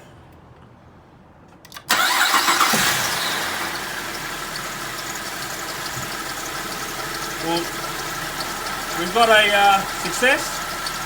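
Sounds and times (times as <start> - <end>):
car engine starting and idling: 1.7 - 11.0
starter motor clicks: 1.7 - 11.0.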